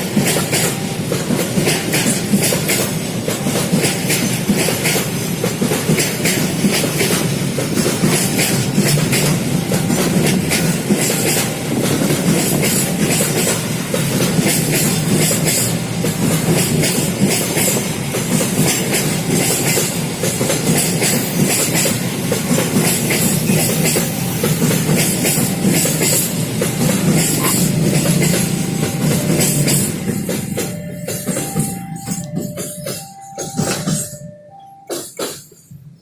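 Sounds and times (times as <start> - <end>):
train wheels clattering over rail joints: 0.0 - 36.0.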